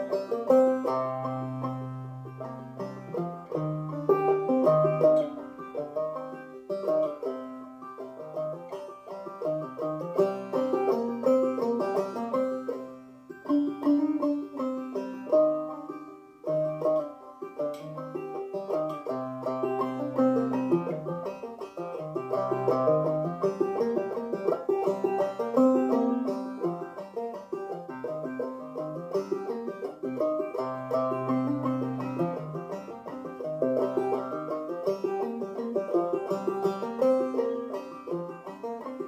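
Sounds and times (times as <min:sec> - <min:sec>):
banjo plucked notes: 0:00.0 - 0:39.0.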